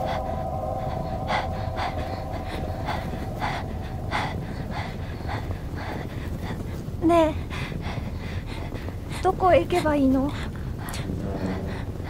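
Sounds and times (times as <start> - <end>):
girl breathing quickly: 0.0 - 12.0
low rumble: 0.0 - 12.0.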